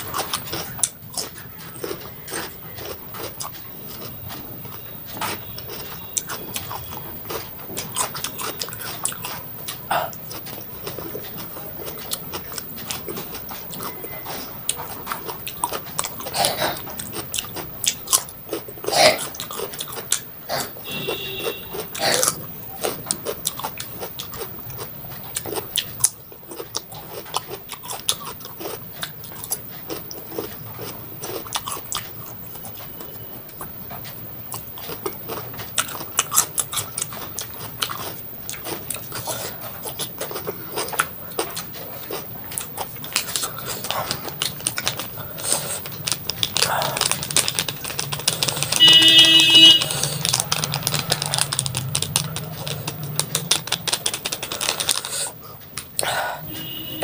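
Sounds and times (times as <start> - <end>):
crunchy biting and chewing: 0.0 - 57.0.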